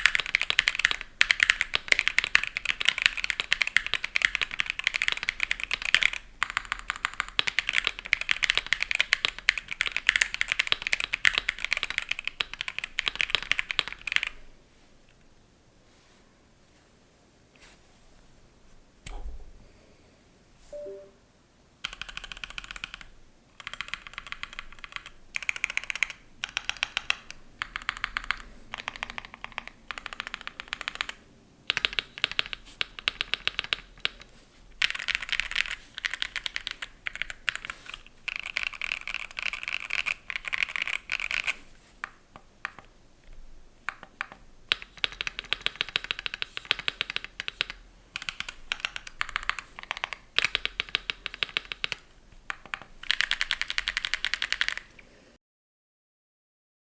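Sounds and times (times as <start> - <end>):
mechanical keyboard typing: 0.0 - 14.4, 21.8 - 34.2, 34.8 - 42.9, 43.8 - 54.9.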